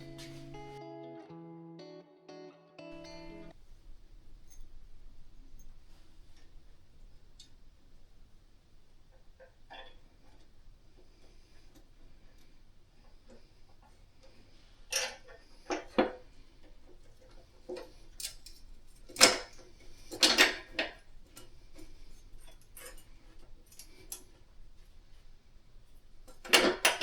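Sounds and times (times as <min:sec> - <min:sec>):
metal hardware clinking: 0:00.0 - 0:00.8, 0:03.0 - 0:25.2, 0:25.9 - 0:27.0.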